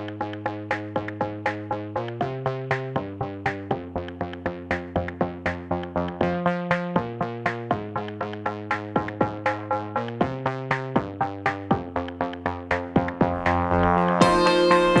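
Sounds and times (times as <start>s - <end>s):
fast drum-machine beat: 0.0s - 15.0s
synthesizer chords: 0.0s - 15.0s.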